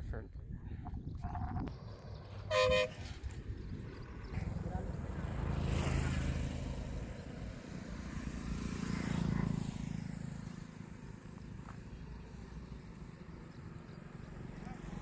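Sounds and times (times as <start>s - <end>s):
road noise: 0.4s - 15.0s.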